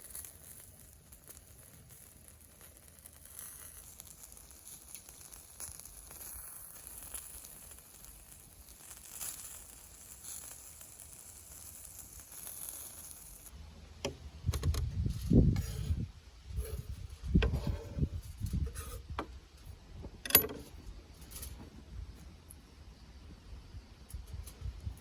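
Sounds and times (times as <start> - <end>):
food sizzling over charcoal: 0.0 - 25.0.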